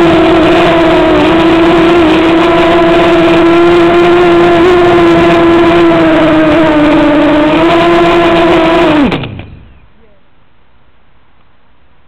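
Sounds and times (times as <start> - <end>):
aircraft motors and propellers humming: 0.0 - 10.6.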